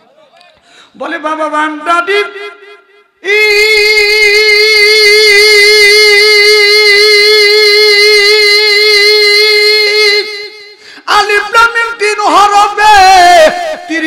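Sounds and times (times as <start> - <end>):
man singing a long high note: 1.0 - 14.0.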